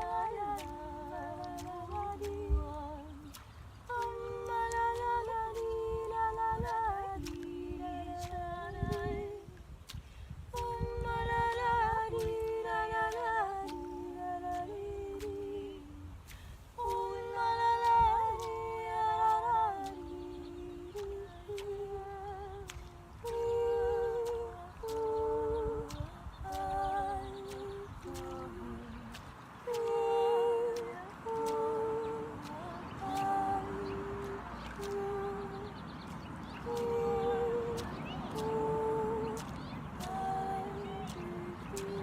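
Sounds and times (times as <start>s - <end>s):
two voices humming in harmony: 0.0s - 9.8s, 10.5s - 42.0s.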